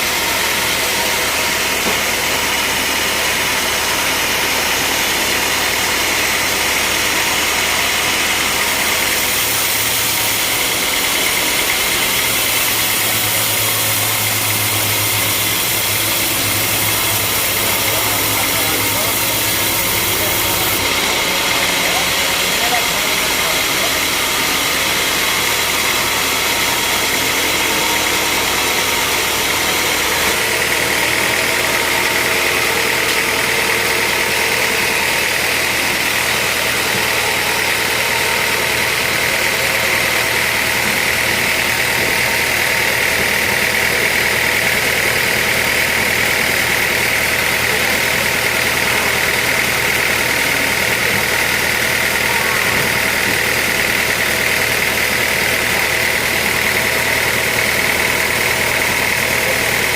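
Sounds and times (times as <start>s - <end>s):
high machine whine: 0.0s - 59.9s
sawmill machinery drone: 0.0s - 59.9s.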